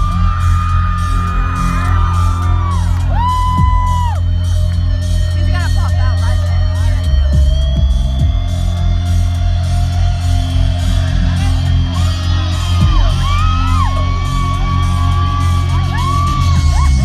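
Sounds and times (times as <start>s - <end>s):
crowd whooping and screaming: 0.0s - 17.0s
live concert music heavy bass: 0.0s - 17.0s.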